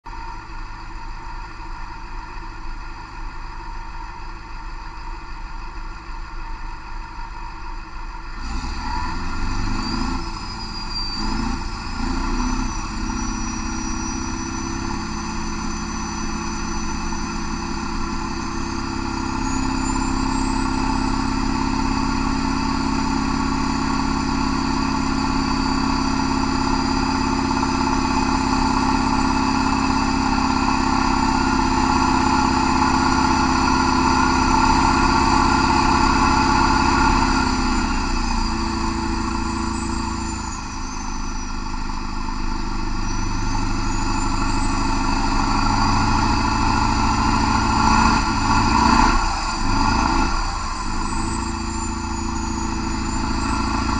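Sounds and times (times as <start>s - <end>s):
diesel engine running: 0.0s - 53.9s
high whine: 10.1s - 53.9s.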